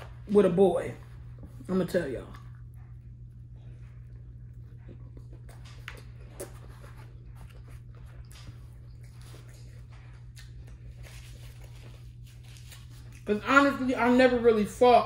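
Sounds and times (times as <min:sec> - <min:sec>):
steady low hum: 0:00.0 - 0:15.0
mouth chewing food: 0:01.2 - 0:13.4.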